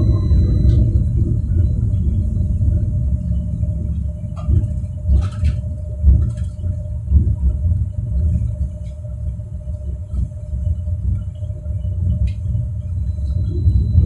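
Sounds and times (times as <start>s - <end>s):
tram drive hum: 0.0s - 14.0s
tram wheels rumbling on rail: 0.0s - 14.0s.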